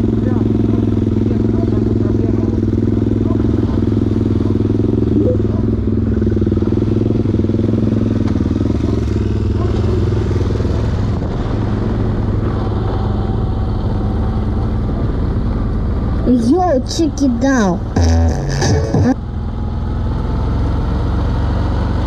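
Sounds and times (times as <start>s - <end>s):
motorbike engine running: 0.0s - 22.0s.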